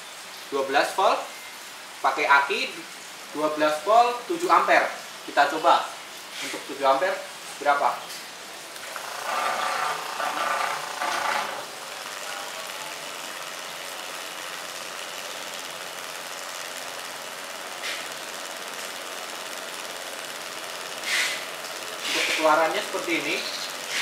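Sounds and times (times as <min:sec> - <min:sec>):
electric pump running: 0:01.8 - 0:24.0.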